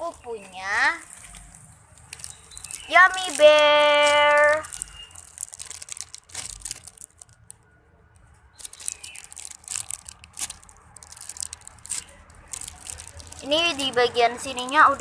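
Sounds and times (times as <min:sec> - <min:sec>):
foam toy crinkling and crackling: 0:00.0 - 0:15.0.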